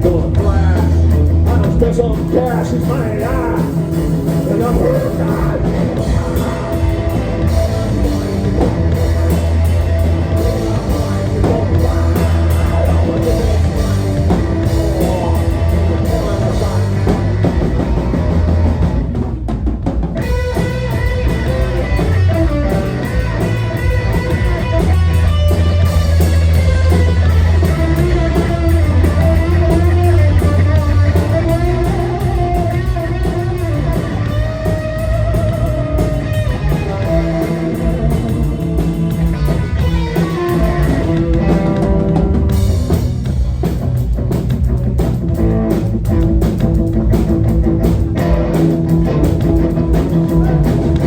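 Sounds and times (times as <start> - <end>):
bass guitar: 0.0 - 51.0
drum kit: 0.0 - 51.0
electric guitar: 0.0 - 51.0.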